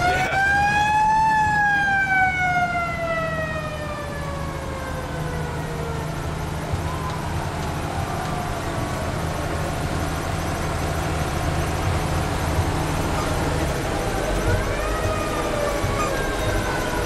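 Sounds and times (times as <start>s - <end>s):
fire truck engine rumble: 0.0s - 17.0s
fire truck siren wailing: 0.0s - 17.0s.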